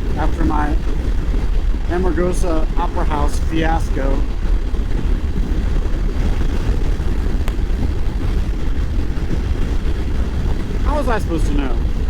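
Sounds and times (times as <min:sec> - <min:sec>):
wind rush and engine drone: 0:00.0 - 0:12.0.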